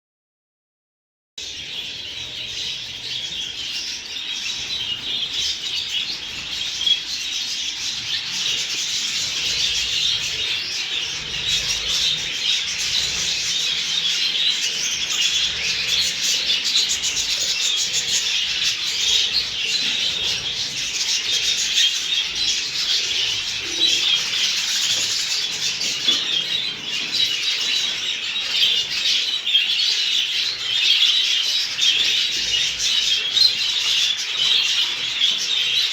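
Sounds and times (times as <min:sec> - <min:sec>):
flock of budgerigars chattering: 0:01.4 - 0:35.9.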